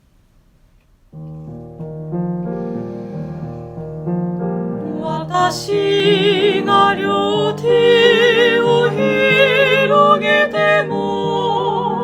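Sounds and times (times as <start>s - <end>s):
gentle piano chords: 1.1s - 12.0s.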